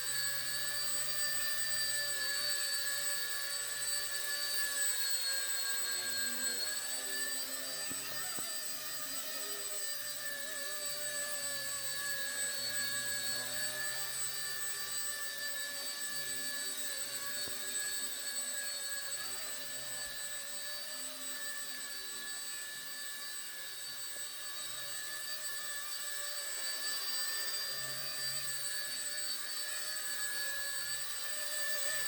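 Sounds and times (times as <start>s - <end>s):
rc helicopter whine: 0.0s - 32.0s.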